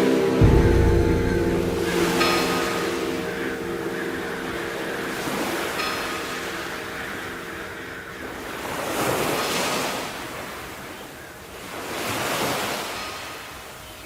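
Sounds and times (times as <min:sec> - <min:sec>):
sea waves washing on shore: 0:00.0 - 0:14.0.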